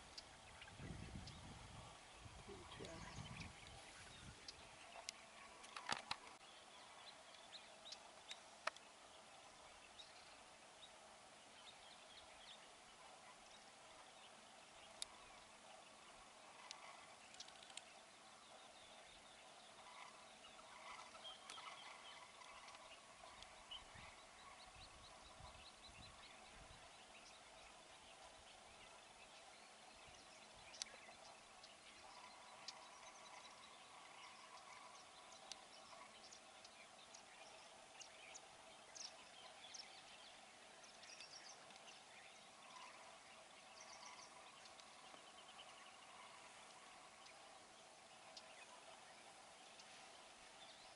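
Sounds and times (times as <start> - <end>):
distant small birds chirping: 0.0 - 50.9
high ticking bird calls: 0.0 - 50.9
low steady hum: 0.0 - 50.9
steady hiss: 0.0 - 50.9.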